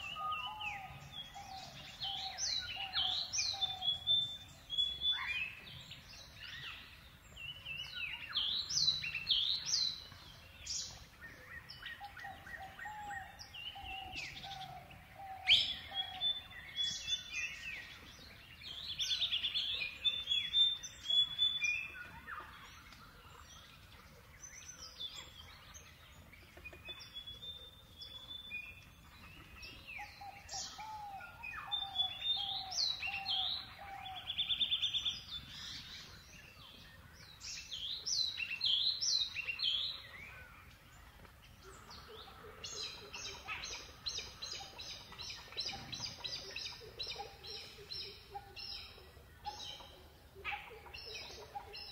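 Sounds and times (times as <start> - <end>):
birds chirping and calling: 0.0 - 51.9.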